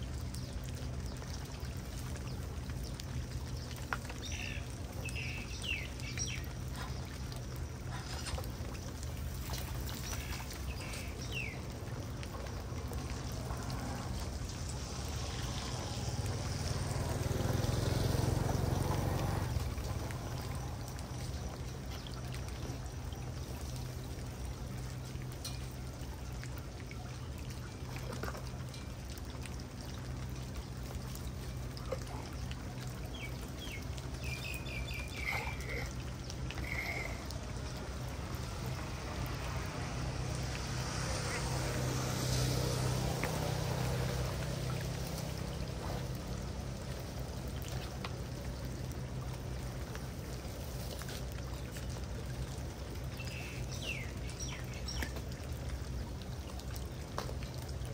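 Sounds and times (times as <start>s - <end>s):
water pouring into storm drain: 0.0s - 57.9s.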